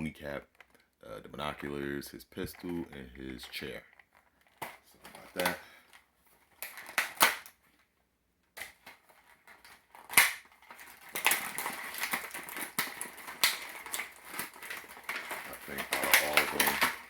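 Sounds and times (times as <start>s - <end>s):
plastic packaging crackling: 0.0s - 7.9s, 8.5s - 17.0s
plastic parts clicking: 0.2s - 7.6s, 8.4s - 17.0s.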